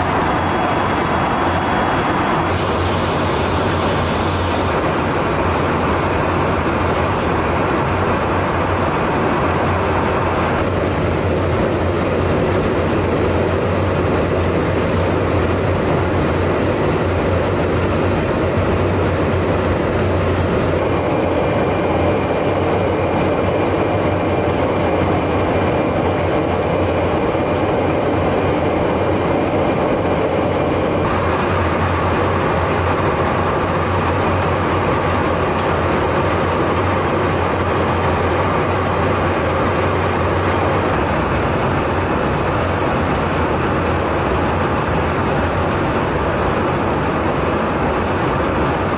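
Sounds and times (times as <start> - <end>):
aircraft engine drone: 0.0 - 48.9
rushing air: 0.0 - 48.9.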